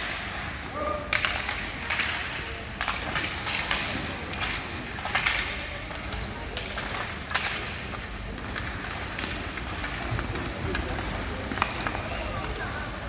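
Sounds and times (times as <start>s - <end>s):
skates and sticks scraping ice: 0.0s - 13.0s.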